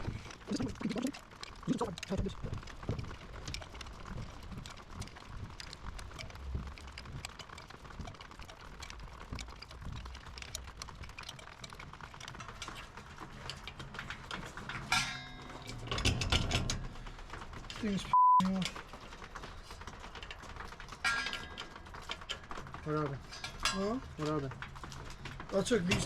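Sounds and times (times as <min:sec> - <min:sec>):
hand tools clicking and tapping: 0:00.0 - 0:26.0.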